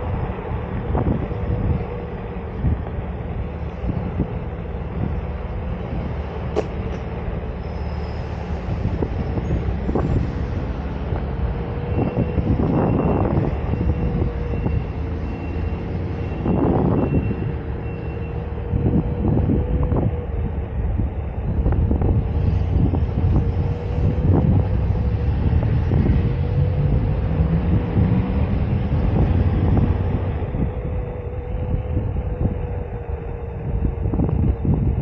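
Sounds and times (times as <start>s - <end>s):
electric hub motor whining: 0.0s - 35.0s
low wind rumble: 0.0s - 35.0s.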